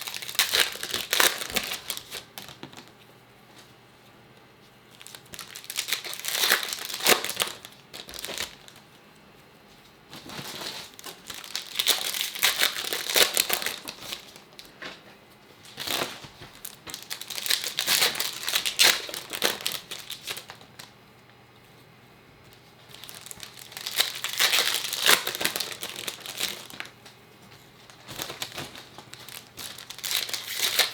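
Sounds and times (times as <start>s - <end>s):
wrappers crinkling and tearing: 0.0s - 2.9s, 4.9s - 8.9s, 10.1s - 14.8s, 15.6s - 20.9s, 22.5s - 30.9s.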